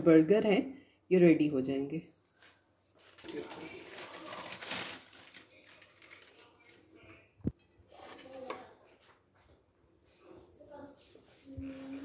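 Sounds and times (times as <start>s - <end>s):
faint rustling handling noise: 2.2s - 12.0s.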